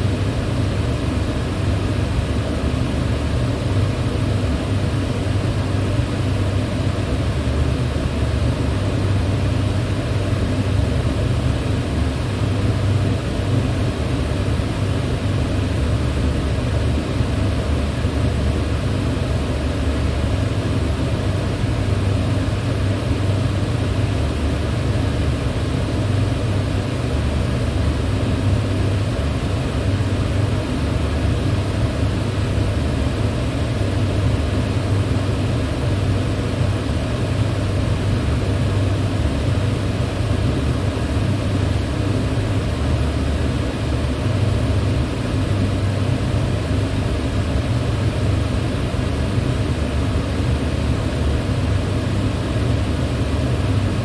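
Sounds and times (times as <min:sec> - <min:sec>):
electric fan whoosh and hum: 0:00.0 - 0:54.0.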